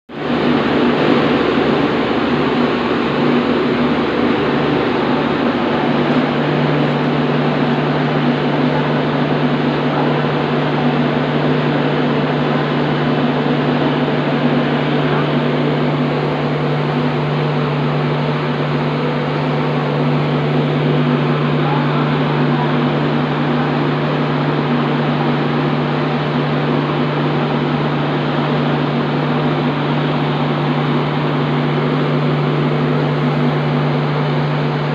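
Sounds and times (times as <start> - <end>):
diesel generator engine drone: 0.1 - 34.9.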